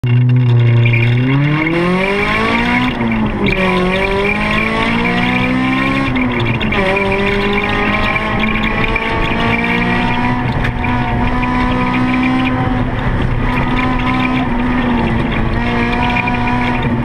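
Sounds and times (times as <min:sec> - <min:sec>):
racing car engine accelerating: 0:00.1 - 0:17.0.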